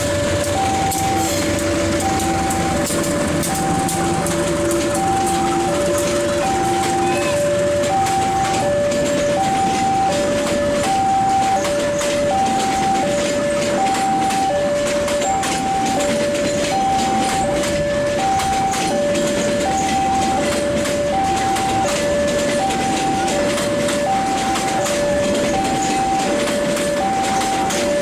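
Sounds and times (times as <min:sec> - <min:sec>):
rail joints clattering: 0:00.0 - 0:28.0
train wheels rumbling: 0:00.0 - 0:28.0.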